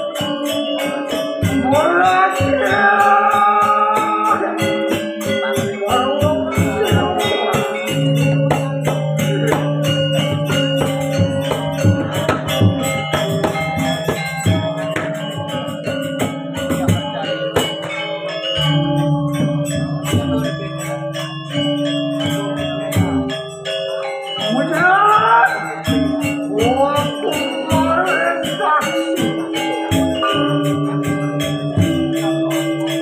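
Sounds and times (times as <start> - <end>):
gamelan playing: 0.0 - 33.0.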